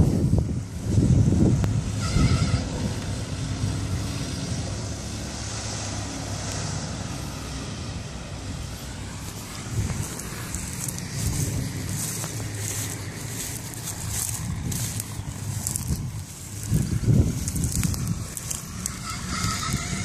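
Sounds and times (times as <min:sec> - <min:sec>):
diesel truck engine driving away: 0:00.0 - 0:20.0.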